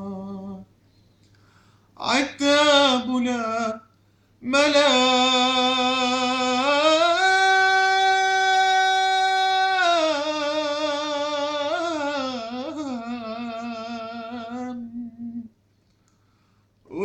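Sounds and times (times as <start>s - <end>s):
person singing unaccompanied: 0.0s - 0.7s, 2.0s - 15.5s.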